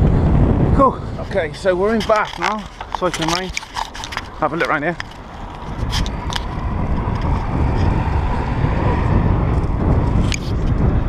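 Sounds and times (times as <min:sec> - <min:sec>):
wind and road rumble: 0:00.0 - 0:11.0.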